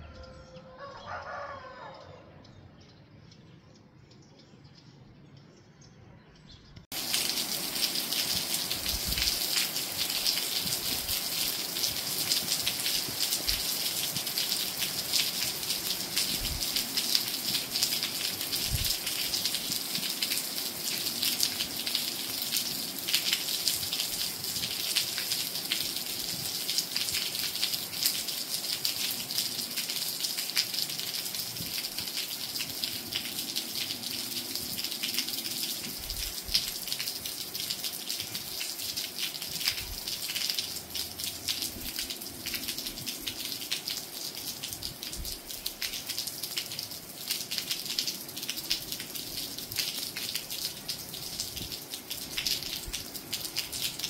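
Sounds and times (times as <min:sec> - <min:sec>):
steady rain falling: 0:06.9 - 0:54.0.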